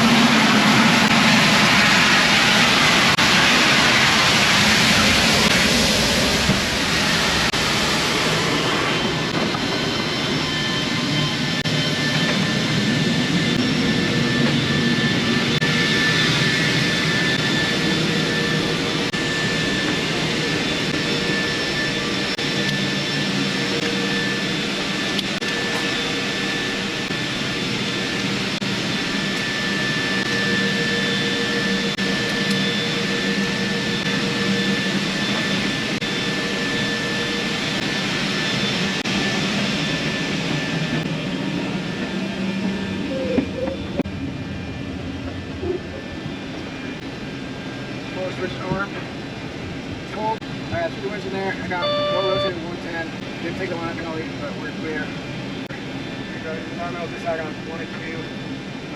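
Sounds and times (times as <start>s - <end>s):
jet engines running: 0.0s - 58.9s.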